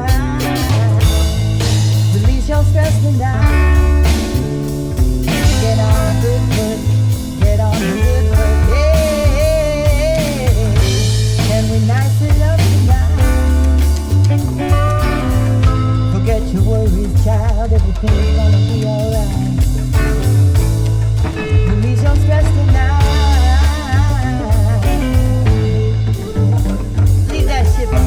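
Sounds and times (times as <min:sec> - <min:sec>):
band playing a steady groove: 0:00.0 - 0:28.0.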